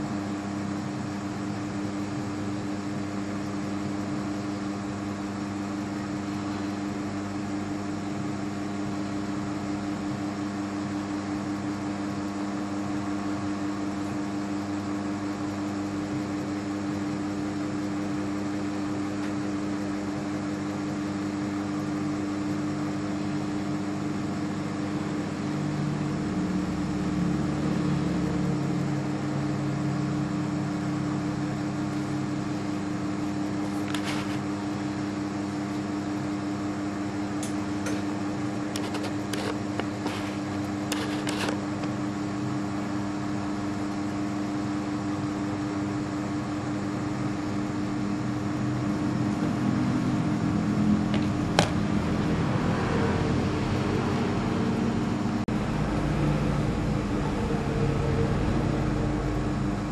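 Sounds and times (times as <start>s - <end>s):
mechanical hum: 0.0s - 59.9s.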